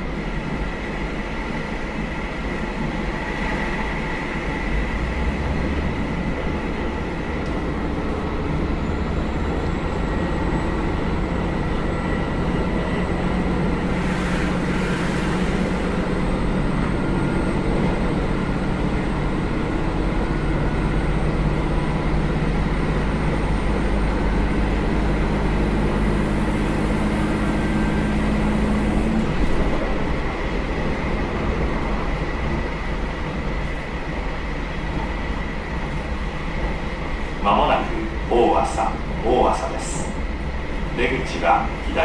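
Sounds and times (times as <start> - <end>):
diesel railcar engine pulling: 0.0 - 42.0
train running rumble: 0.0 - 42.0.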